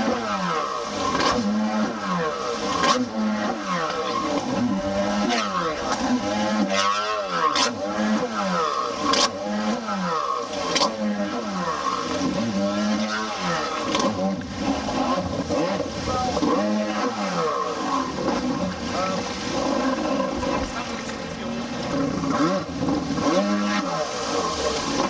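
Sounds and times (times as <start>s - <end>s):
jet ski engine revving: 0.0s - 25.0s.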